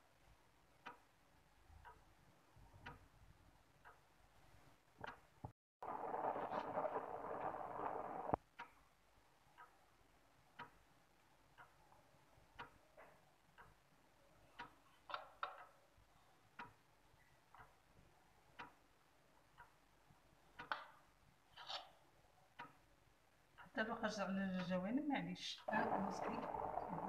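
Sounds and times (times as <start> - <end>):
faint clock ticking: 0.0 - 5.5, 7.2 - 27.0.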